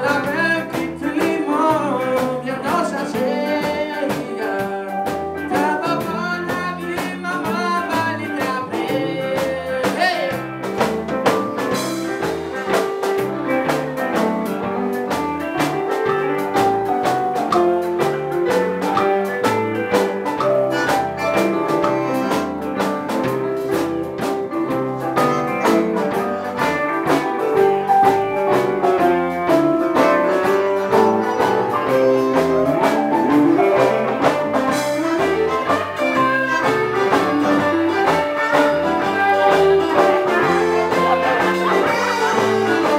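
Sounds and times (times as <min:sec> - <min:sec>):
live band playing: 0:00.0 - 0:42.9.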